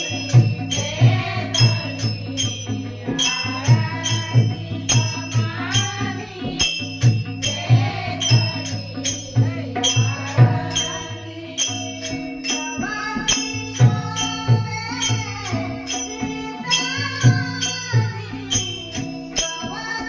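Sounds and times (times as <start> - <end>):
drum beat: 0.0 - 20.0
jingling hand cymbals: 0.0 - 20.0
woman singing devotional song: 0.0 - 20.0.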